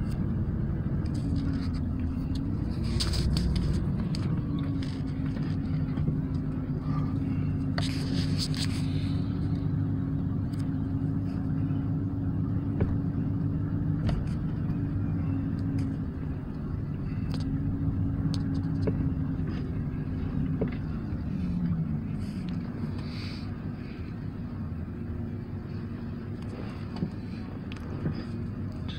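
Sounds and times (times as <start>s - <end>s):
car engine hum: 0.0s - 28.9s
tyre and road noise: 0.0s - 28.9s.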